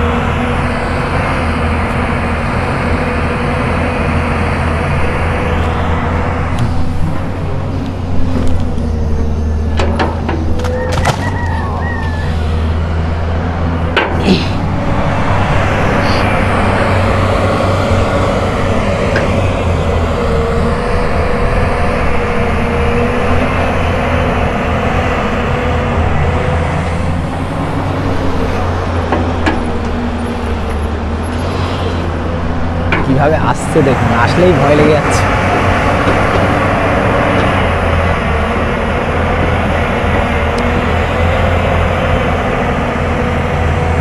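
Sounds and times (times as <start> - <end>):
wavering whine: 0.0 - 35.2
excavator diesel engine running: 0.0 - 44.0.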